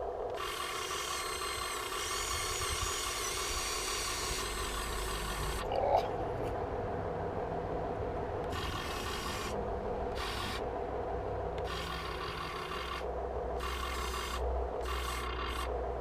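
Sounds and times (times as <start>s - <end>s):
servos whirring and grinding: 0.0s - 6.6s, 8.4s - 10.7s, 11.6s - 15.8s
steady low hum: 0.0s - 16.0s.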